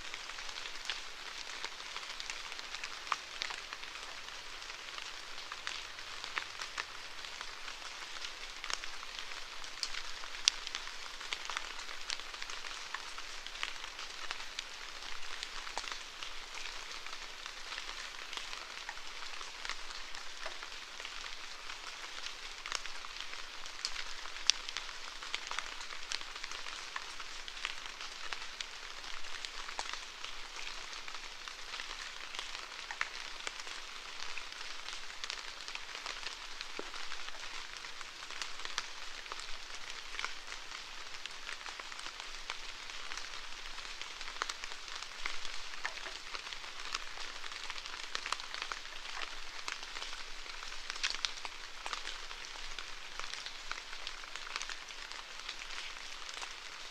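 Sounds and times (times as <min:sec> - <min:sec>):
raindrops pattering close by: 0:00.0 - 0:56.9.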